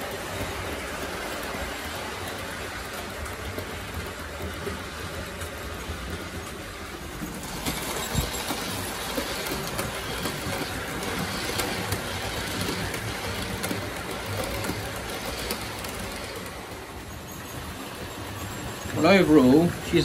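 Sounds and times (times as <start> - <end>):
model train wheels clicking on rails: 0.0 - 20.0.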